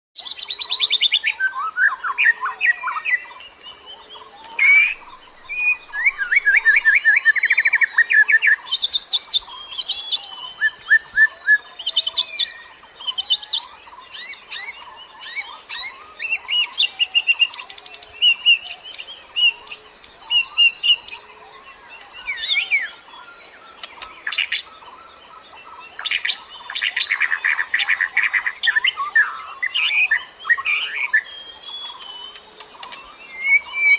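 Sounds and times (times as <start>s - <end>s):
small birds chirping and trilling: 0.2s - 33.9s.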